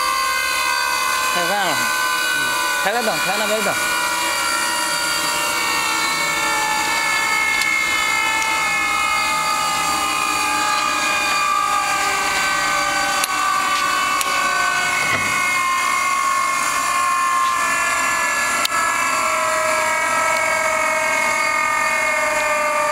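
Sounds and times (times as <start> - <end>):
spindle high whine: 0.0 - 22.9.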